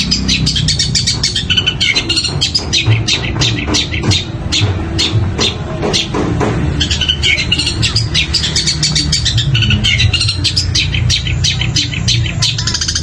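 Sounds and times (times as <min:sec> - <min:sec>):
bird singing chirps and trills: 0:00.0 - 0:13.0.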